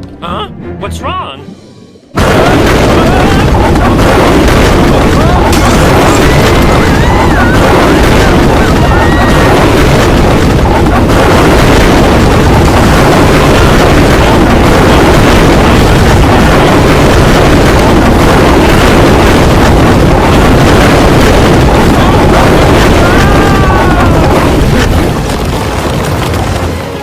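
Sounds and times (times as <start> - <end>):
loud steady rumbling: 2.1 - 27.0
dense clatter: 2.2 - 27.0.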